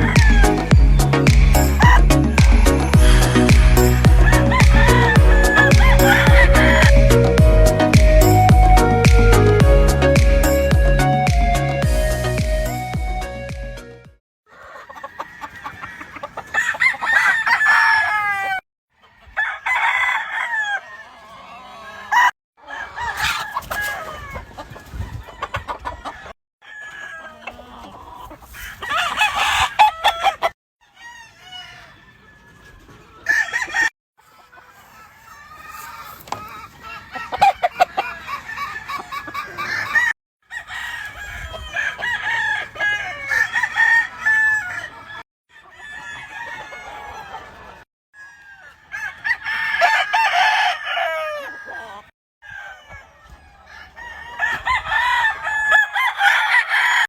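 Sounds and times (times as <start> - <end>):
chickens clucking: 0.0 - 10.0, 14.5 - 19.4, 20.8 - 49.6, 51.4 - 56.3
roosters crowing: 0.0 - 12.1, 14.5 - 57.0.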